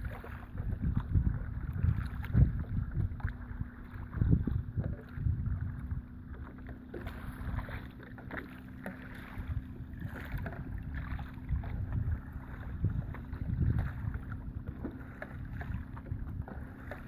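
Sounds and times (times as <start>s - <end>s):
water splashing and lapping: 0.0s - 17.0s
wind buffeting microphone: 0.0s - 17.0s.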